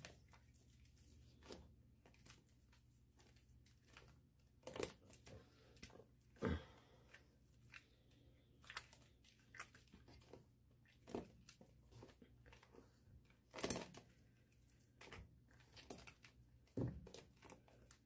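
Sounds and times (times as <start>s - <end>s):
hands squishing wet chalk in water: 0.0s - 18.0s.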